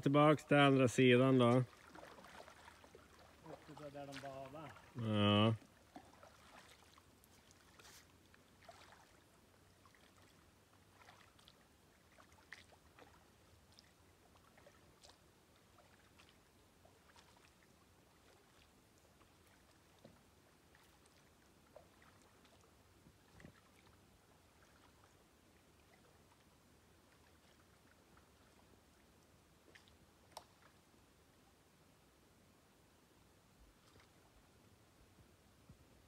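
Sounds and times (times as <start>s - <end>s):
distant paddle splashes and drips: 0.5s - 31.3s, 33.7s - 34.6s.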